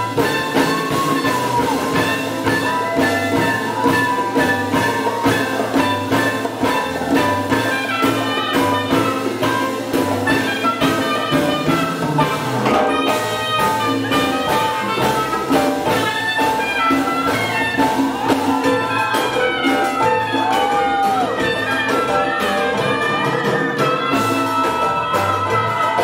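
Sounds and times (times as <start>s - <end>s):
congas: 0.0s - 26.0s
jazz band playing: 0.0s - 26.0s.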